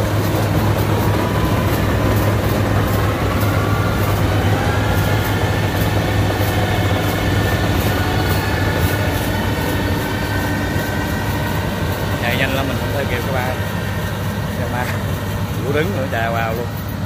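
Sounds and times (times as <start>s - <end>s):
combine harvester humming and whining: 0.0s - 17.0s.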